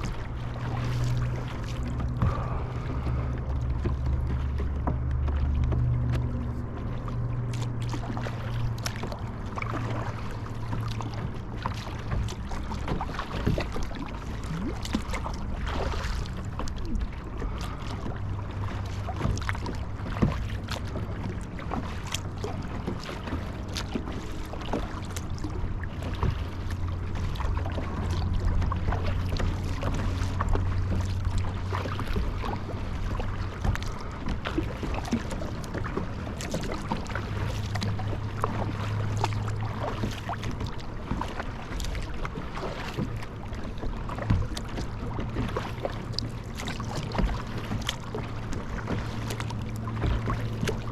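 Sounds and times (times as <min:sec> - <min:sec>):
steady low hum: 0:00.0 - 0:50.9
water splashing and trickling: 0:00.0 - 0:50.9.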